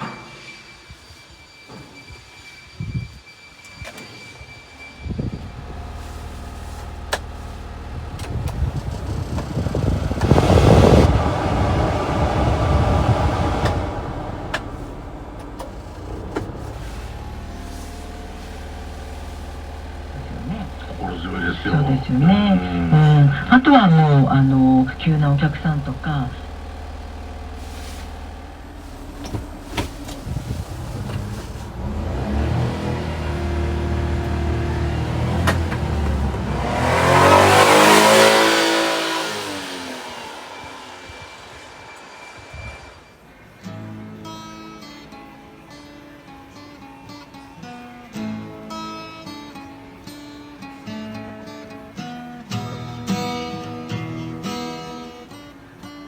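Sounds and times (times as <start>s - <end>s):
small truck engine running: 3.6s - 56.0s.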